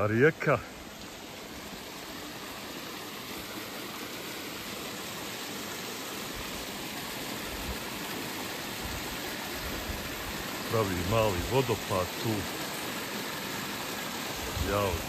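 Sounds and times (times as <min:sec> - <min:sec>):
river rushing over waterfall: 0:00.0 - 0:15.0.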